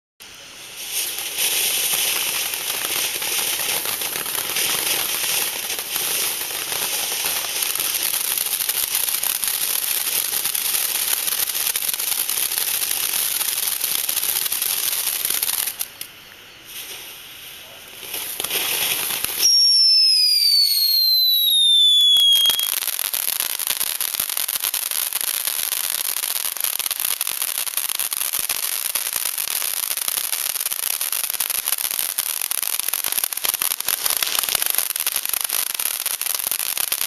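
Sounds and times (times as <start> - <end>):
firework fountain hissing and crackling: 0.2 - 37.0.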